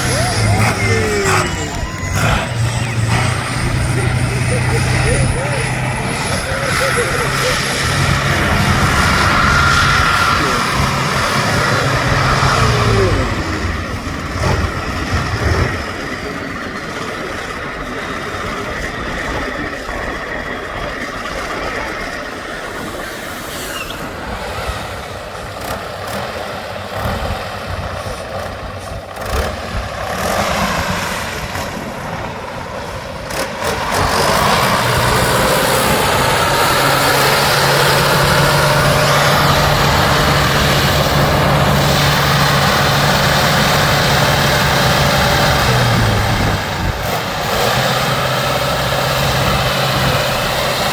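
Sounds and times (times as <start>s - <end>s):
heavy truck engine running: 0.0s - 50.9s.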